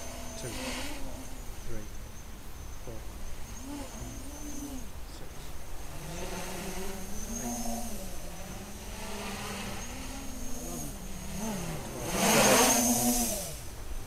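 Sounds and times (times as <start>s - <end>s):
propeller whoosh: 0.0s - 14.0s
quadcopter motors buzzing: 0.0s - 14.0s.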